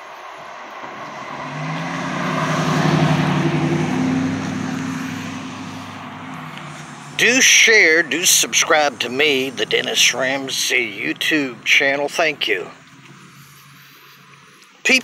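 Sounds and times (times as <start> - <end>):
vehicle driving past: 0.0 - 14.8.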